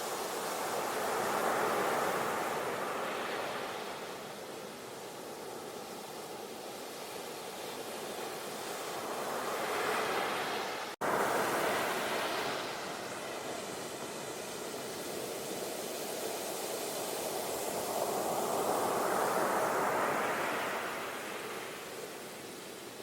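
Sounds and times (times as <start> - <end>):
ocean waves on shore: 0.0 - 23.0.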